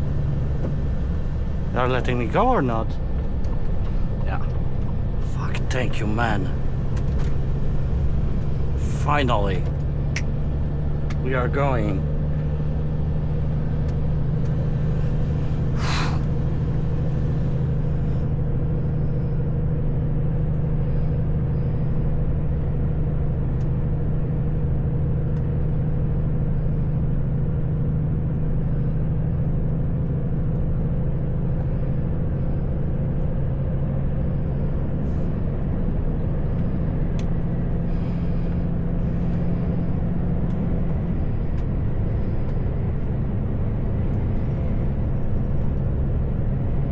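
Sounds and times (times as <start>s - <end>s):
diesel truck engine droning: 0.0s - 46.9s.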